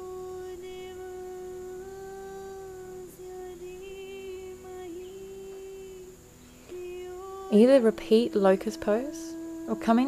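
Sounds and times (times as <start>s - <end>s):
soft humming background music: 0.0s - 10.0s.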